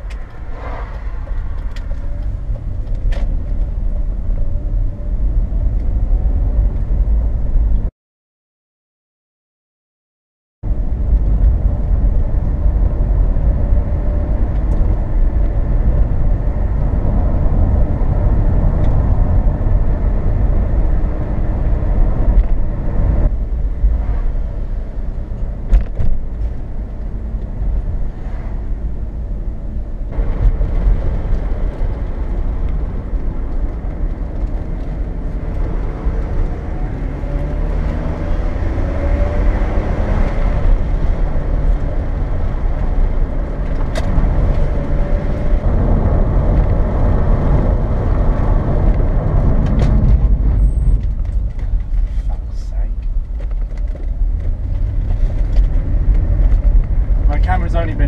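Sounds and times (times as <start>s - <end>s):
car engine and road rumble: 0.0s - 7.9s, 10.6s - 58.0s.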